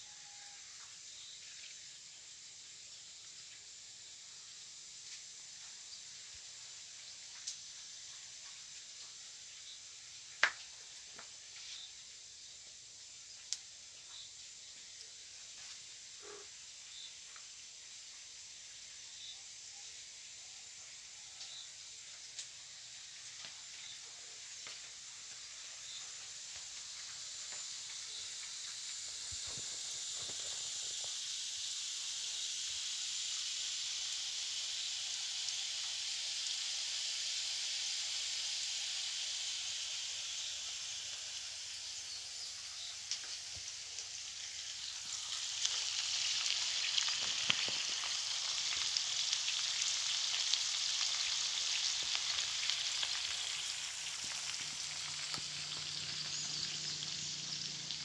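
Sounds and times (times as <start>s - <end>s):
potatoes and onions frying in oil: 0.0s - 58.0s.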